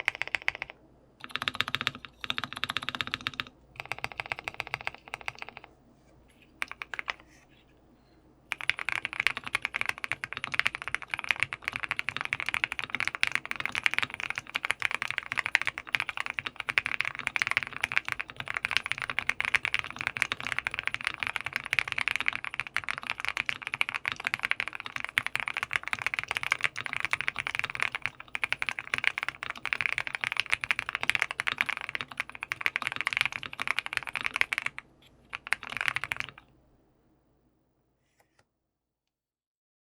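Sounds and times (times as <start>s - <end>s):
mechanical keyboard typing: 0.0s - 5.7s, 6.6s - 7.4s, 8.5s - 36.5s.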